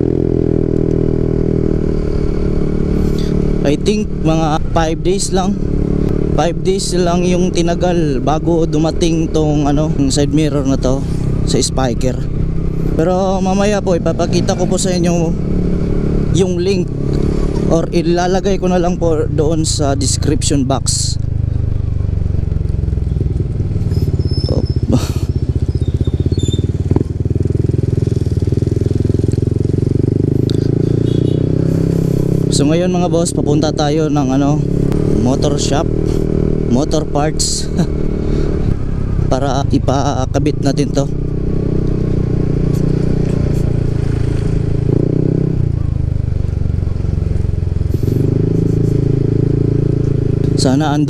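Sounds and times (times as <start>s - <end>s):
scooter engine droning: 0.0s - 51.0s.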